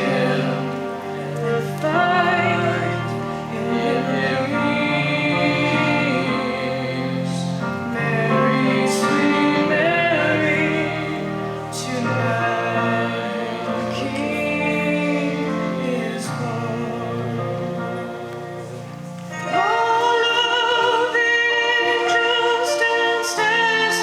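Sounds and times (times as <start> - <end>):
person singing slow christmas song: 0.0 - 24.0.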